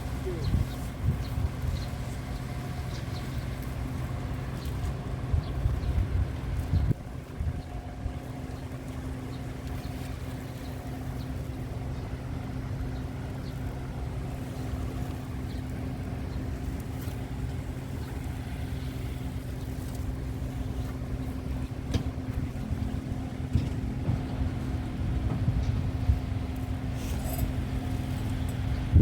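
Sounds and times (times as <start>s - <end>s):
car engine and road hum: 0.0s - 29.0s.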